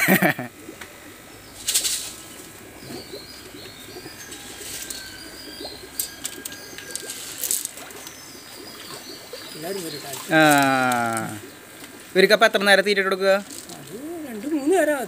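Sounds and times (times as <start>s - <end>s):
low background hum: 0.0s - 15.0s
birds chirping: 0.6s - 15.0s.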